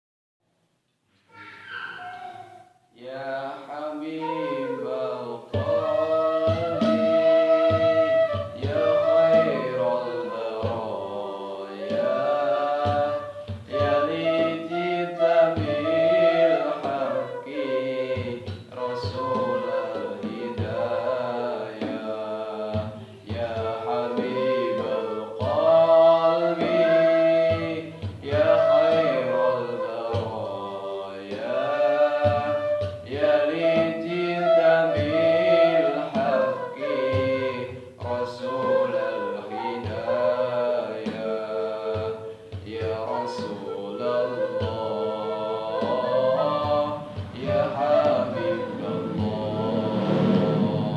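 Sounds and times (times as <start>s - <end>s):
voices singing devotional song: 3.0s - 50.9s.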